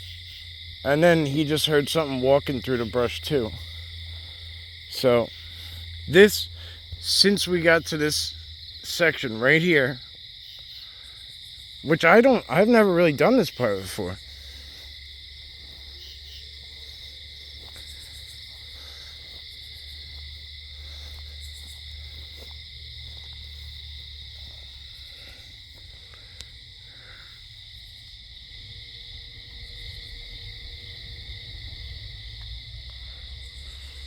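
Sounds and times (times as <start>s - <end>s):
night insects chorus: 0.0s - 34.0s.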